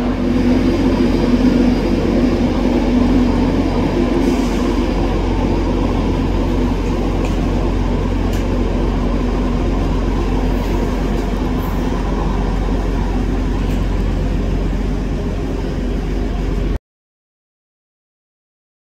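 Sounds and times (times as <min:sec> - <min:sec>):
electric train rumbling: 0:00.0 - 0:16.8.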